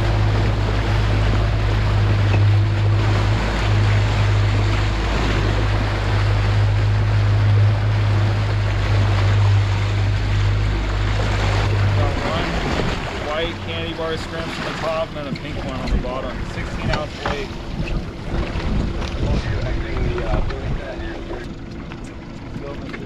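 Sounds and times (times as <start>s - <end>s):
outboard engine humming: 0.0s - 23.0s
water splashing along hull: 0.0s - 23.0s
wind: 0.0s - 23.0s.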